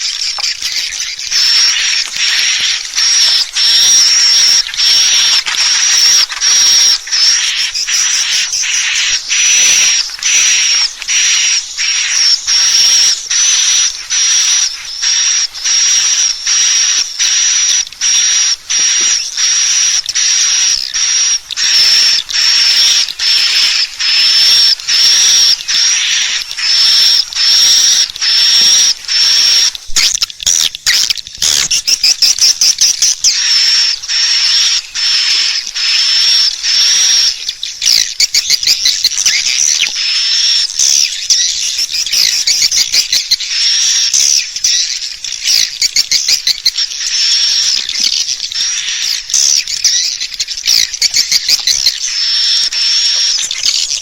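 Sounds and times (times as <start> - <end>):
swiftlet chirps and twitters: 0.0 - 54.0.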